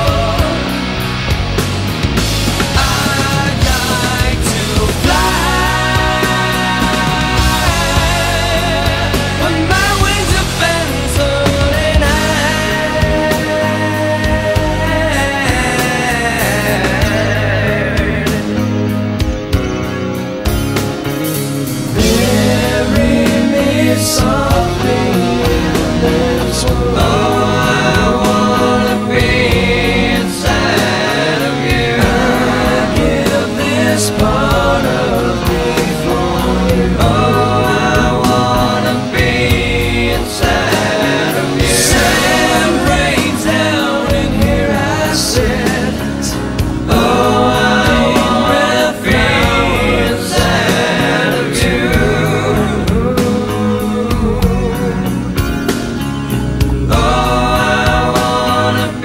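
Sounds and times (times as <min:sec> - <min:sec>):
song with singing and band: 0:00.0 - 0:59.0.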